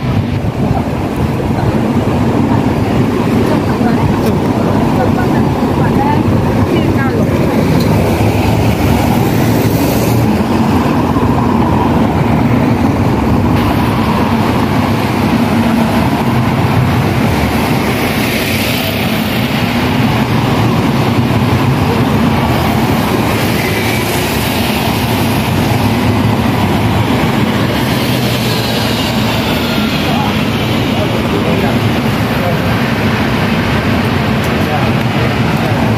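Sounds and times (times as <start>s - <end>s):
city traffic rumble: 0.0s - 35.9s.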